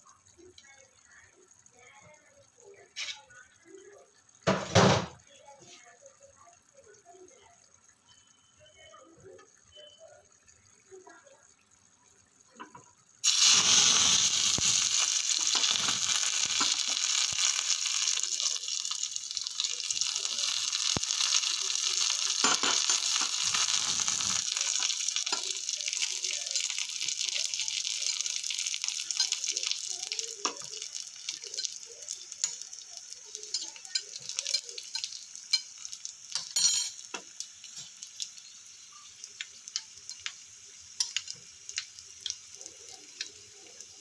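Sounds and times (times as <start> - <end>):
garlic sizzling in hot oil: 0.0 - 44.0.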